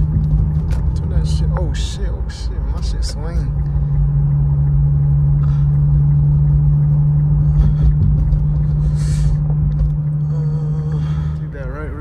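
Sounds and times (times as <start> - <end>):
car engine running: 0.0 - 12.0
tyre and road rumble: 0.0 - 12.0.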